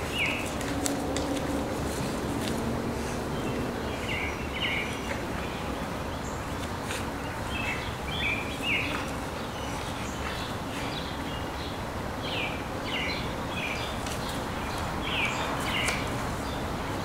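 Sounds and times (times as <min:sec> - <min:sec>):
bird chirping: 0:00.0 - 0:01.7, 0:03.0 - 0:17.0
outdoor background noise: 0:00.0 - 0:17.0.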